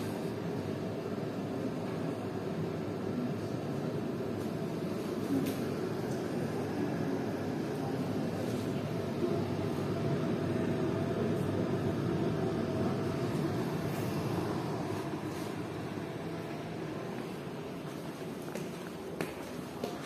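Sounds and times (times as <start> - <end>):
faint hum: 0.0 - 20.0
low rumbling background noise: 0.0 - 20.0.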